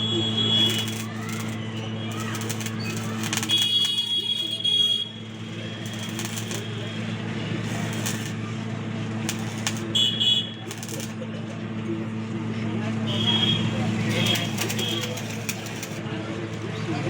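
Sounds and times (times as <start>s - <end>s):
welding arc crackle: 0.0s - 11.4s, 13.1s - 16.1s
welding set humming: 0.0s - 12.2s, 12.9s - 17.0s.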